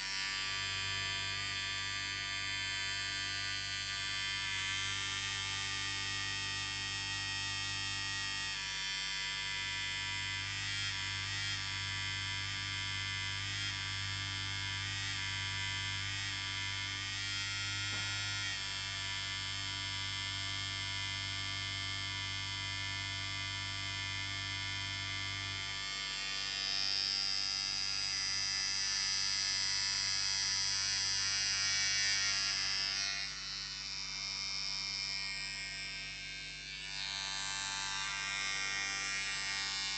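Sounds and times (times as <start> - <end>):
electric beard trimmer buzzing: 0.0 - 39.9.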